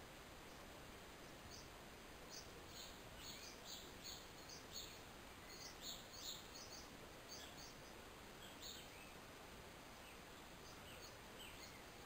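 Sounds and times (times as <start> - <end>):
low background hiss: 0.0 - 12.0
small bird high chirps: 1.3 - 9.2, 10.0 - 12.0.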